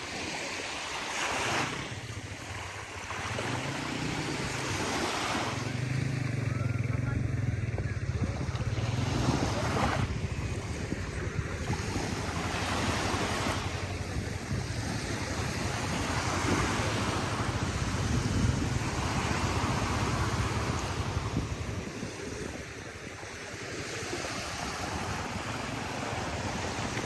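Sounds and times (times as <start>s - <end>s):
waves washing on shore: 0.0s - 27.0s
wind rumbling on microphone: 0.0s - 27.0s.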